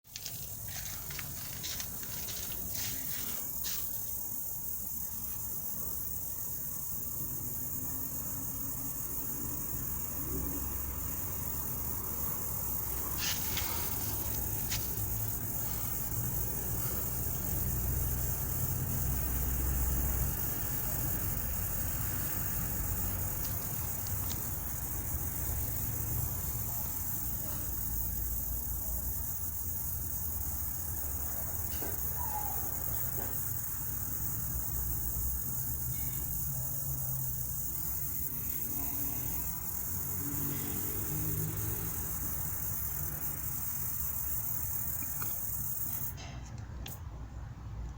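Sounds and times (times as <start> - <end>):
insect buzzing: 0.2 - 46.2.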